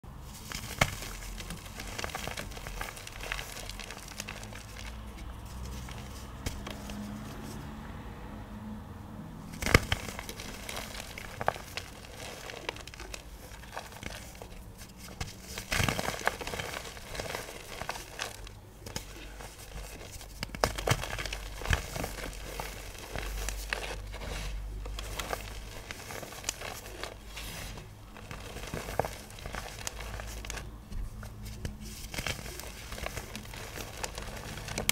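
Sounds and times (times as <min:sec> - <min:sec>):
pigment clumps crunching: 0:00.1 - 0:07.7, 0:09.5 - 0:34.9.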